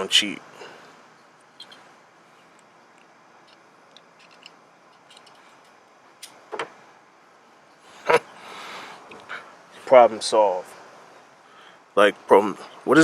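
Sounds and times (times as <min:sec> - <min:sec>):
rustle: 0:00.0 - 0:13.0.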